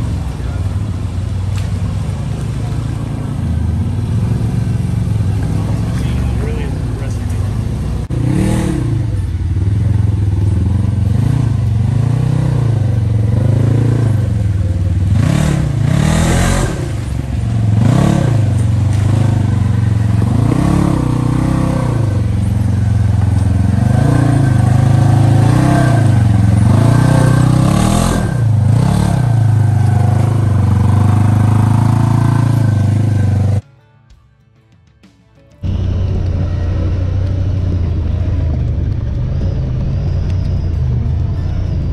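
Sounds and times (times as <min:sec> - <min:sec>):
vehicle engine revving under load: 0:00.0 - 0:33.6.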